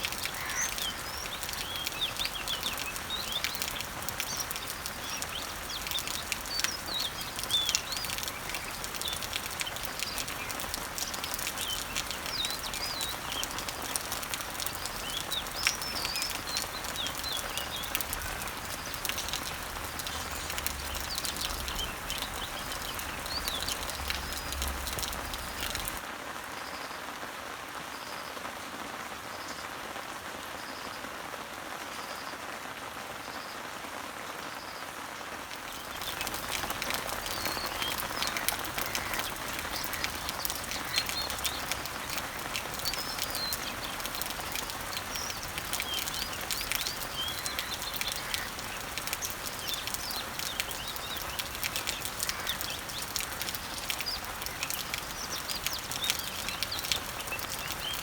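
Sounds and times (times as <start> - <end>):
birds chirping: 0.0 - 26.0, 35.5 - 58.0
drips tapping on leaves: 0.0 - 26.0, 35.6 - 58.0
rain falling on leaves: 0.0 - 58.0.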